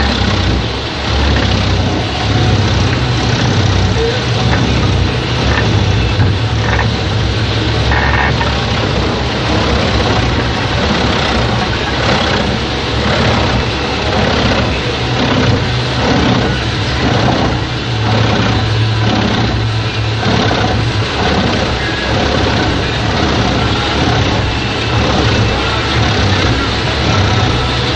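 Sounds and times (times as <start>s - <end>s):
wood chipper running: 0.0s - 27.9s.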